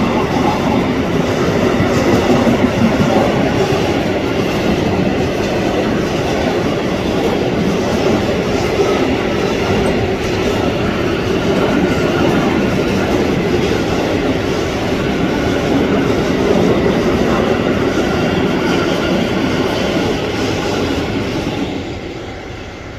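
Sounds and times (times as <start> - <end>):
freight train wheels rolling on rail: 0.0 - 22.9.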